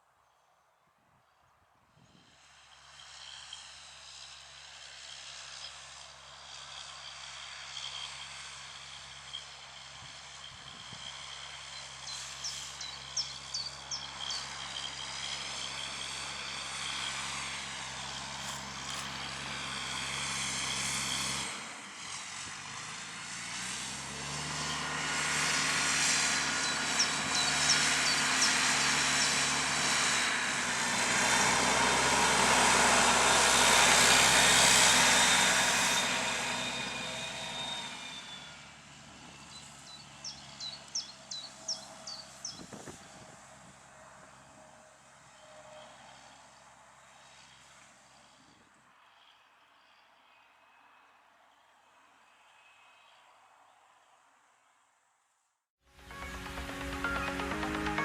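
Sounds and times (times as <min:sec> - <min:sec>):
tractor diesel engine running: 0:02.2 - 0:50.8, 0:55.9 - 0:58.0.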